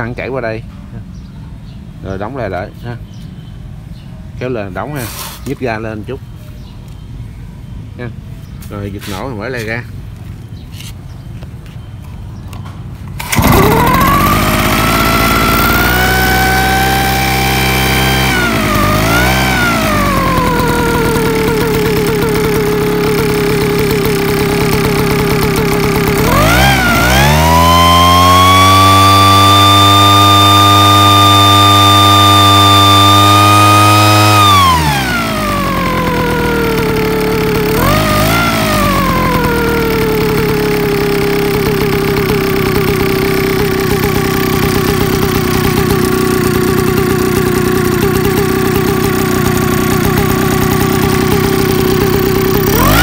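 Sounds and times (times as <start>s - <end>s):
small engine and blower fan: 8.5s - 53.0s.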